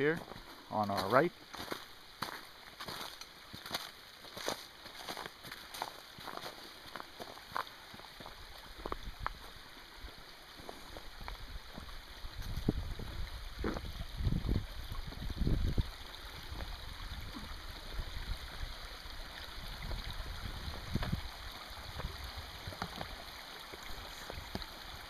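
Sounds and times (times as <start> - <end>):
creek trickling: 0.0 - 25.0.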